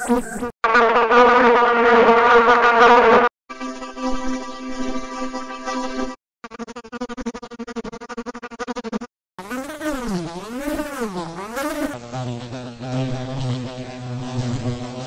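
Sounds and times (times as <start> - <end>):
altered housefly buzzing: 0.0 - 15.0.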